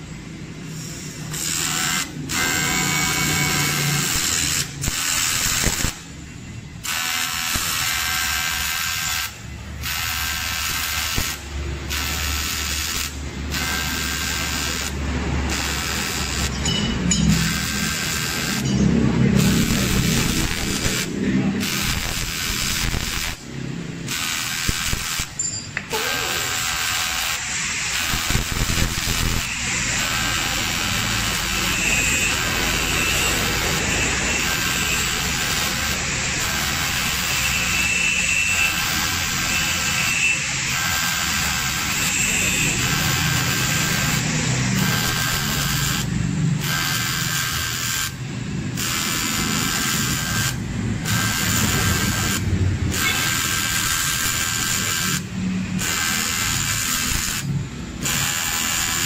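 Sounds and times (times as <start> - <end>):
welding arc buzzing: 0.0 - 59.0.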